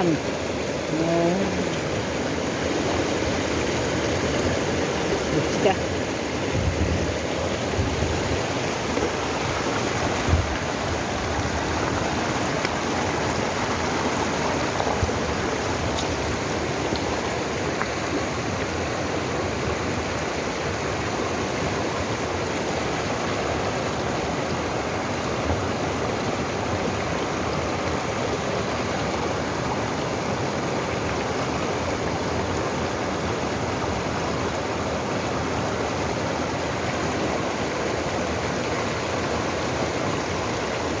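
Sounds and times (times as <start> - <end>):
stream rushing: 0.0 - 41.0.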